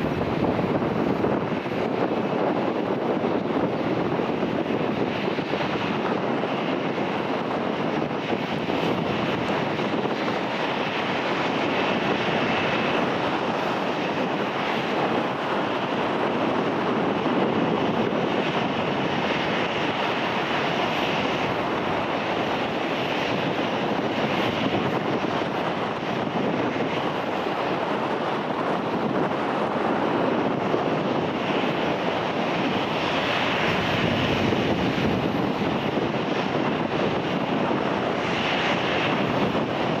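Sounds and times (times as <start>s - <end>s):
jet engines at taxi thrust: 0.0s - 40.0s.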